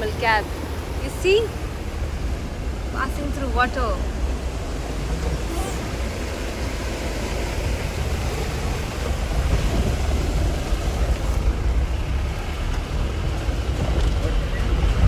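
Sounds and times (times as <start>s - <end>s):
engine rumble: 0.0s - 15.0s
water rushing: 0.0s - 15.0s.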